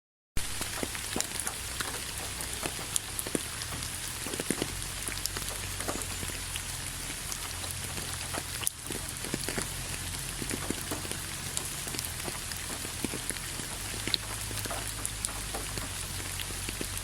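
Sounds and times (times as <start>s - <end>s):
light rain falling: 0.4s - 17.0s.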